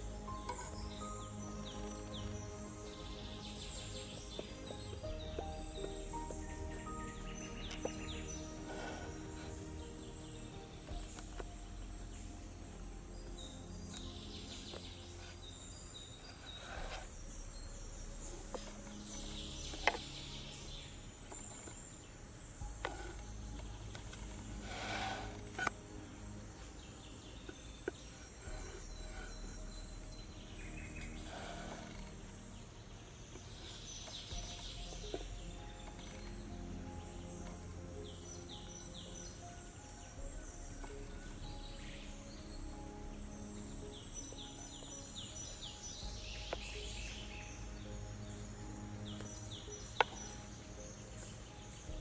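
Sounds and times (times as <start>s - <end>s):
low rumble: 0.0s - 52.0s.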